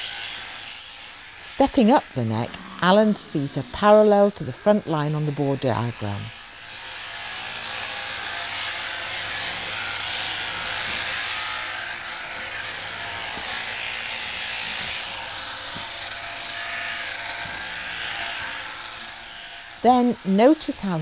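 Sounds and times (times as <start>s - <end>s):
shearing handpiece buzzing: 0.0s - 21.0s.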